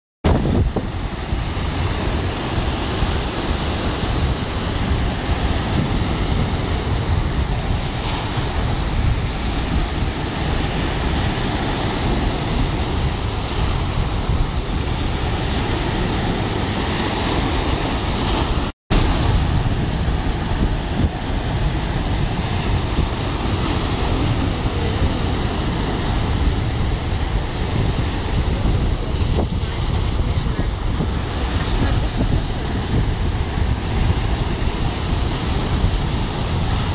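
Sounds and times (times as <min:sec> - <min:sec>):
wind buffeting microphone: 0:00.2 - 0:36.9
sea waves washing onto beach: 0:00.3 - 0:36.9.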